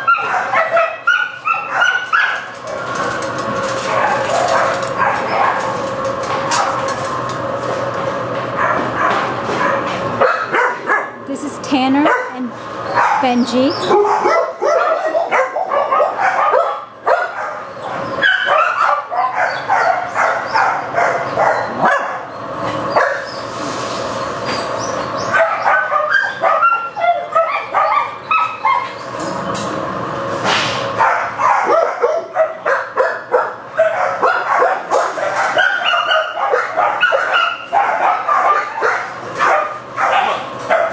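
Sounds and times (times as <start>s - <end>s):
many dogs barking: 0.0s - 5.8s, 8.6s - 11.2s, 12.0s - 23.3s, 25.2s - 29.0s, 31.0s - 40.9s.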